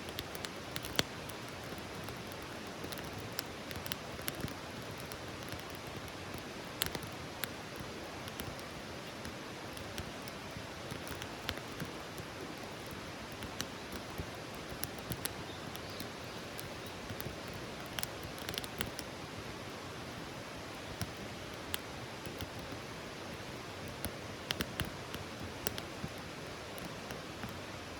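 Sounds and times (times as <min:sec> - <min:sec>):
campfire crackling: 0:00.0 - 0:27.9.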